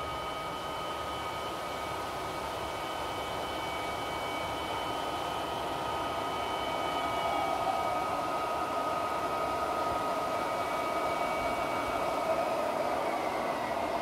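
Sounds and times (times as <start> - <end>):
model train rolling hum: 0.0 - 14.0
thin motor whine: 0.0 - 14.0.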